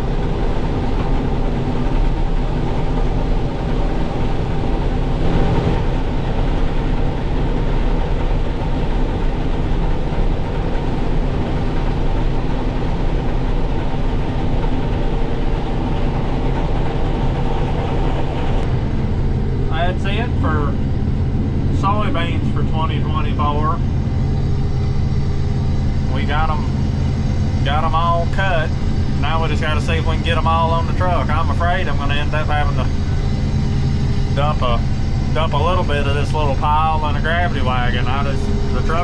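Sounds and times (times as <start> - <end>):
combine engine drone: 0.0 - 39.0
threshing machinery whirring: 0.0 - 39.0.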